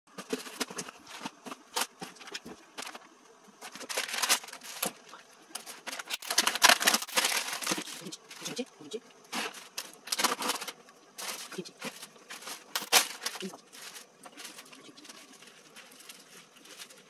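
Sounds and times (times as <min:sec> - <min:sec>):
plastic wrap crinkling: 0:00.1 - 0:17.0.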